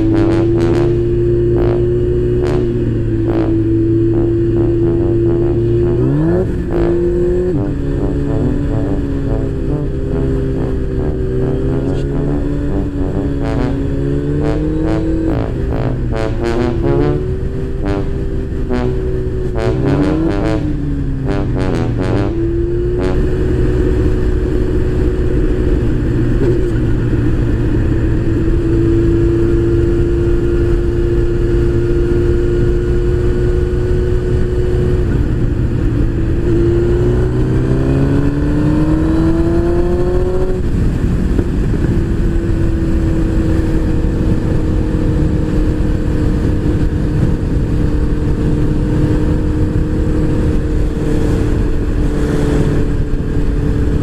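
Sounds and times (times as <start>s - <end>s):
heavy wind noise: 0.0s - 54.0s
motorcycle engine accelerating: 0.0s - 54.0s.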